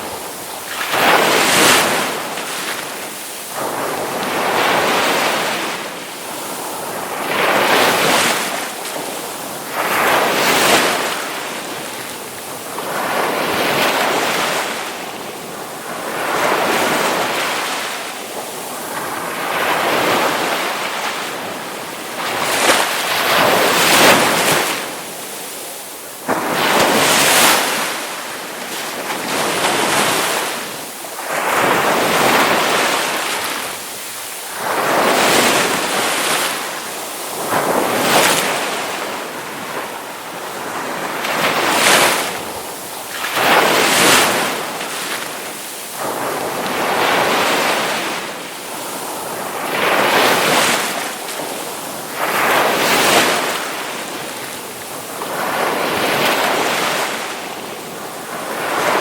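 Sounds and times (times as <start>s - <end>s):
ocean waves crashing on shore: 0.0s - 59.0s.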